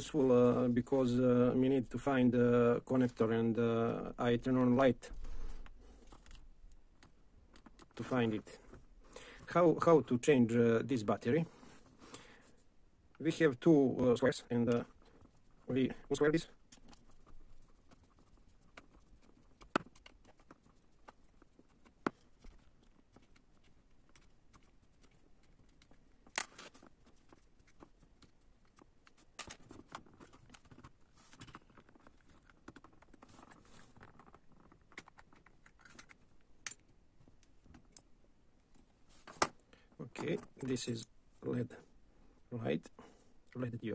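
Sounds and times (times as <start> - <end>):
faint scraping and rustling: 0.0 - 6.5, 7.6 - 36.4, 38.6 - 41.9.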